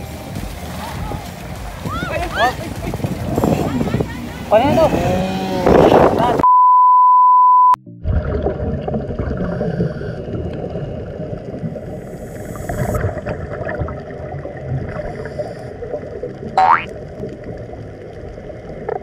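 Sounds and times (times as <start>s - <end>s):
underwater air bubbling: 1.0s - 6.4s, 7.9s - 19.0s.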